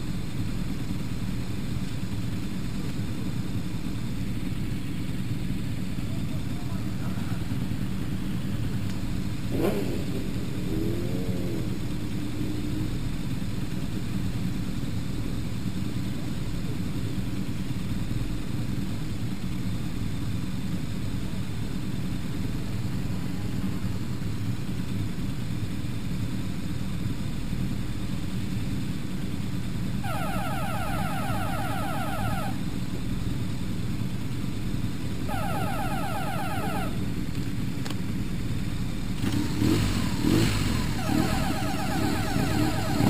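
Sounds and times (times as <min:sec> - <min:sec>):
motorcycle engines idling: 0:00.0 - 0:43.0.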